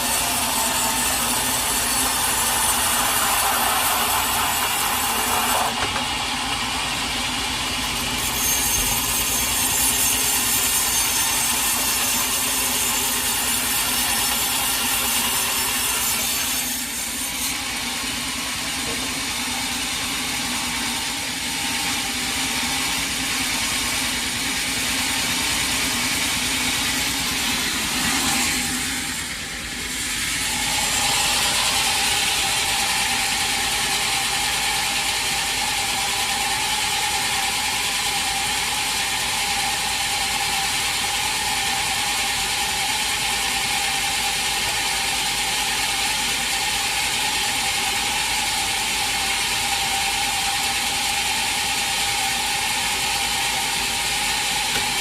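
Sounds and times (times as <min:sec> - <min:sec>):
sawmill saw cutting log: 0:00.0 - 0:55.0.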